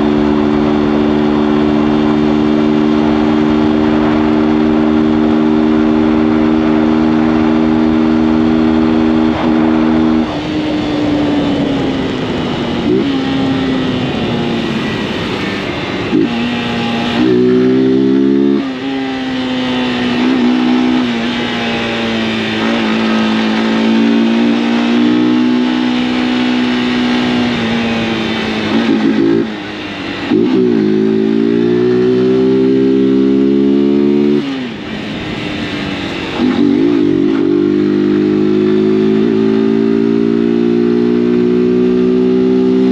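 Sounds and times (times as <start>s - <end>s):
wind rush: 0.0s - 40.4s
motorcycle engine running: 0.0s - 42.9s.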